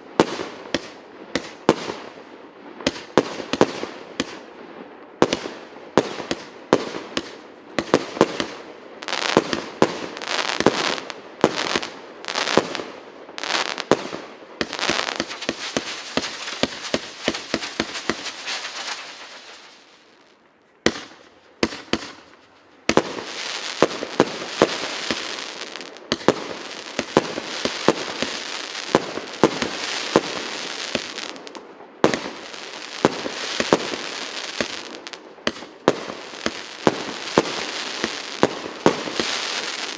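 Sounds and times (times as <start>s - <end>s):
continuous firework hiss: 0.0s - 39.9s
firework launch pops and bursts: 5.2s - 20.2s, 20.8s - 39.9s.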